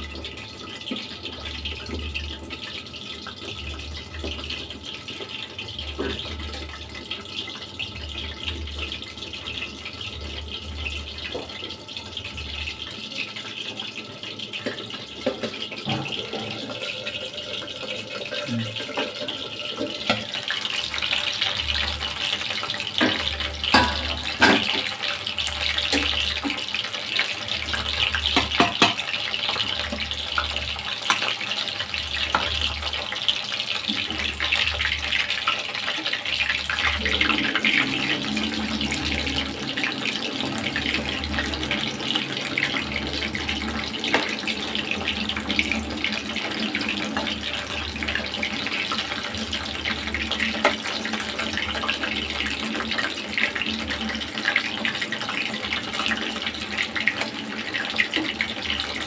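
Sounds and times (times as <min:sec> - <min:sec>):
chicken deep-frying in hot oil: 0:00.0 - 0:59.0.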